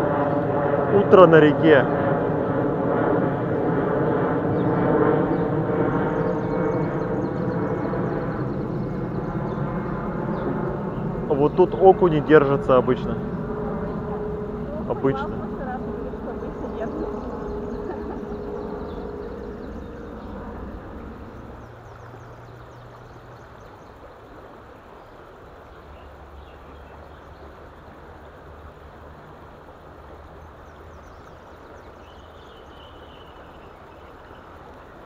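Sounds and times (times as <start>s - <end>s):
river water: 0.0s - 3.7s, 4.3s - 35.0s
low traffic hum: 0.0s - 35.0s.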